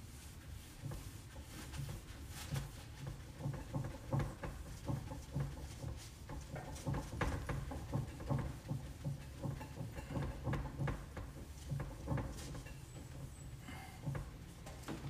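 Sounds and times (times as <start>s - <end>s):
cloth wiping whiteboard: 0.0s - 14.3s.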